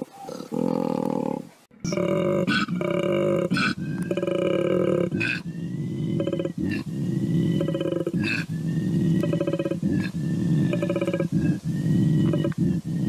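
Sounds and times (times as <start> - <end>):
koala bellowing: 0.0 - 13.0.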